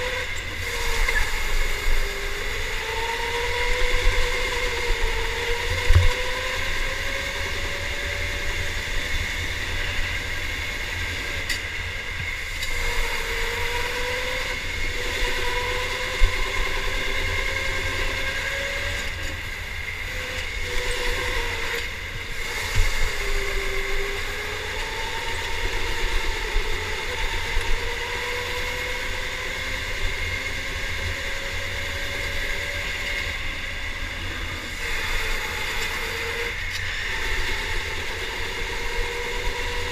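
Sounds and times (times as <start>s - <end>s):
electric motor whining: 0.0s - 39.9s.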